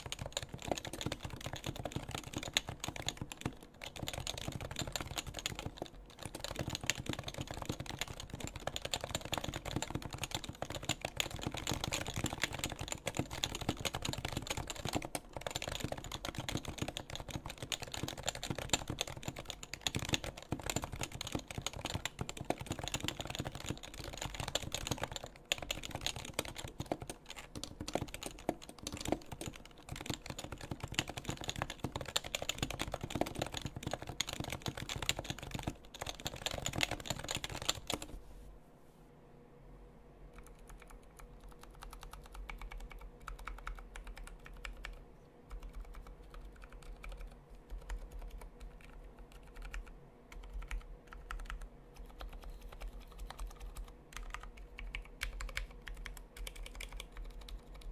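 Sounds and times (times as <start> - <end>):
keyboard typing: 0.0 - 38.2, 40.4 - 57.9.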